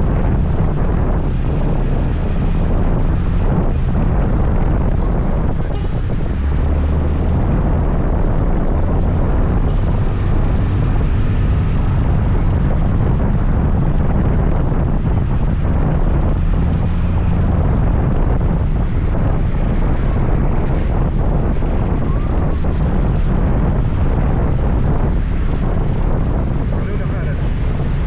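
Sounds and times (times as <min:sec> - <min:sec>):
wind rush on microphone: 0:00.0 - 0:28.0.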